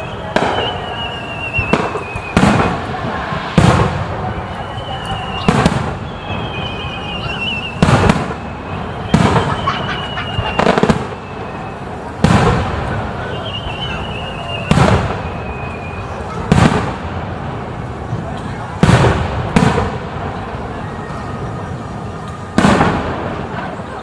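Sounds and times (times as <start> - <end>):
firework whistle: 0.0 - 24.0
fireworks bursting: 0.0 - 24.0.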